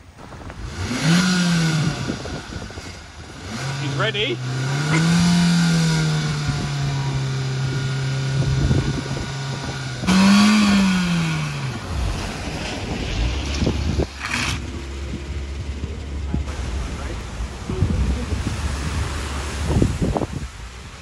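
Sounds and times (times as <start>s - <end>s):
car engine revving: 0.0s - 21.0s
road and water noise: 0.0s - 21.0s.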